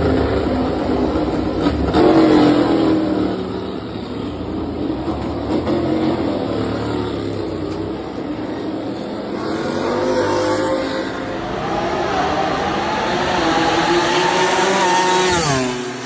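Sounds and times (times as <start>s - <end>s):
racing motorcycle engine revving: 0.0s - 16.0s.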